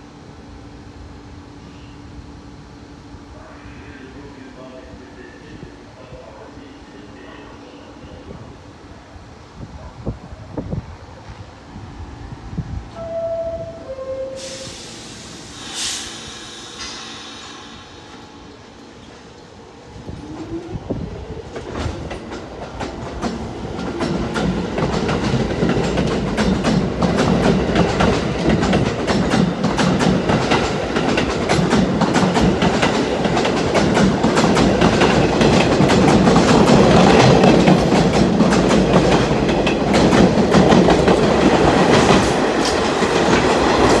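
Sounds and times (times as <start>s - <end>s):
subway train wheels clattering: 0.0s - 44.0s.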